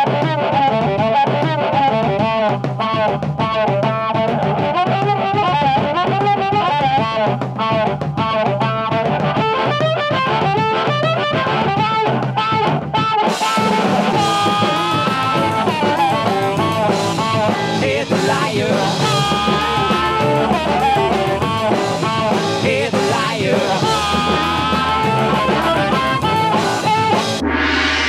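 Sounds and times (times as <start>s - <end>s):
blues rock song with singing: 0.0s - 27.4s.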